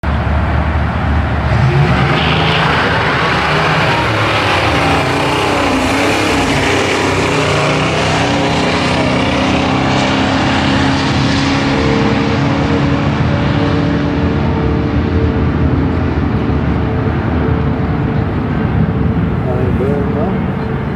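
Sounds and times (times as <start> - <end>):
car engine running: 0.0 - 20.9.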